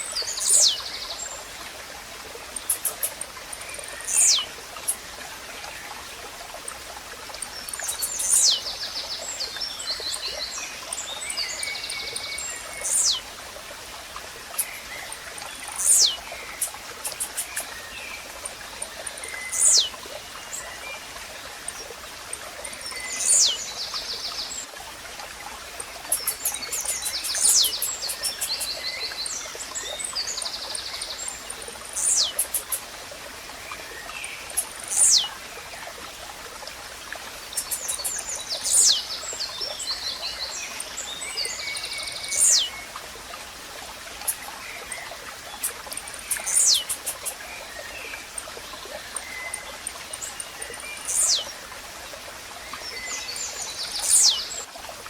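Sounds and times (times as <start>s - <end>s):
small birds chirping: 0.0s - 1.4s, 2.4s - 5.2s, 7.4s - 13.4s, 14.4s - 21.9s, 22.6s - 24.6s, 25.6s - 33.0s, 33.6s - 35.9s, 37.3s - 43.0s, 44.1s - 51.7s, 52.6s - 54.7s
stream rushing: 0.0s - 55.0s.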